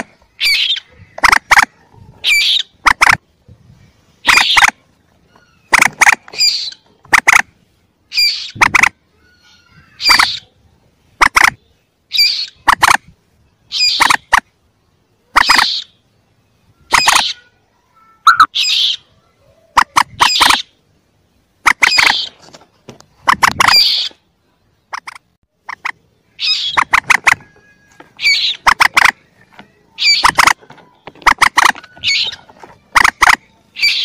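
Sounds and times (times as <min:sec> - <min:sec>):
young moorhens calling: 0:00.0 - 0:34.0.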